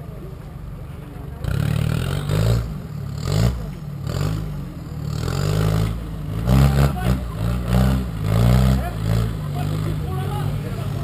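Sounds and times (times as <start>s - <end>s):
off-road vehicle engine revving: 1.2s - 11.0s.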